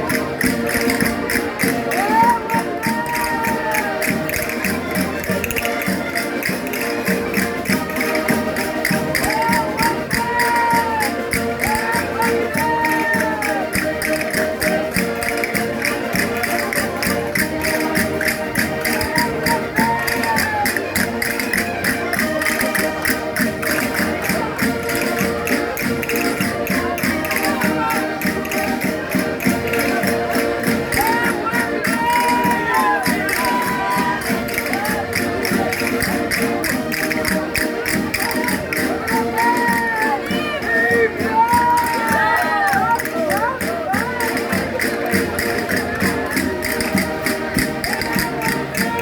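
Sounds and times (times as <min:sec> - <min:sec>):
folk dance music on concertinas: 0:00.0 - 0:49.0
percussion beat: 0:00.0 - 0:49.0.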